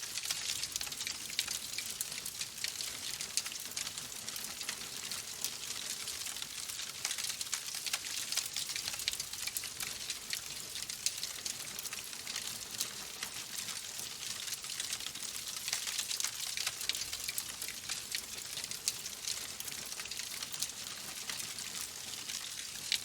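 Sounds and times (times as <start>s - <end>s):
logs crackling in a fireplace: 0.0s - 23.0s.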